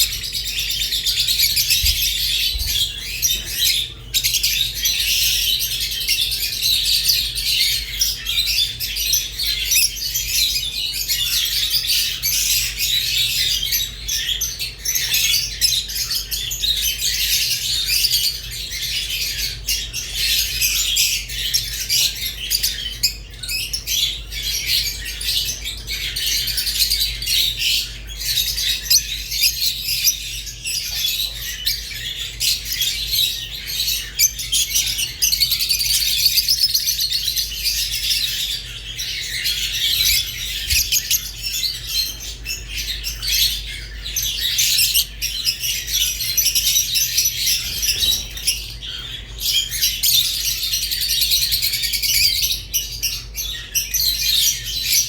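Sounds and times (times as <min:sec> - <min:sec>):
lovebirds chirping and chattering: 0:00.0 - 0:55.0.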